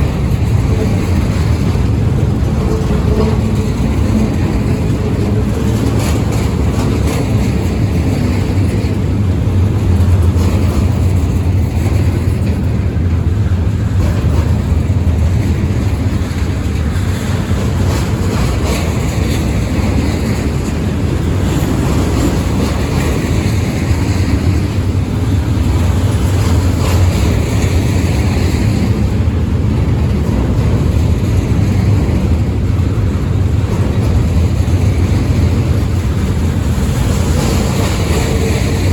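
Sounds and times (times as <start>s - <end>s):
freight train rumbling past: 0.0s - 38.9s
wheels clicking: 0.0s - 38.9s.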